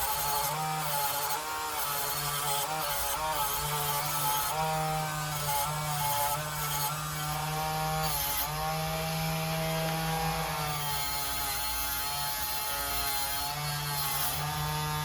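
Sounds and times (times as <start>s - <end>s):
handheld power tool motor: 0.0s - 15.0s.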